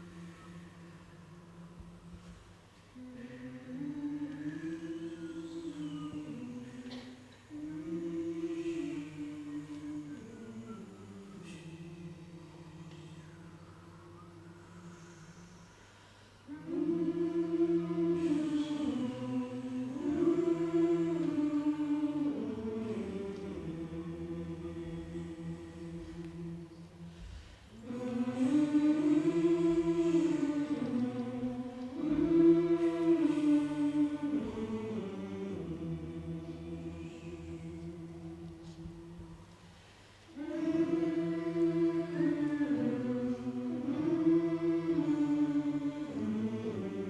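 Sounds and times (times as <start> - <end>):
choir singing held notes: 0.0 - 47.0.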